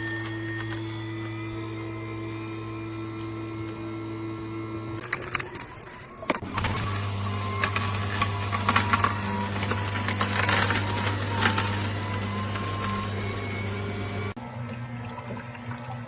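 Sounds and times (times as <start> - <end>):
juicer motor humming: 0.0 - 14.6.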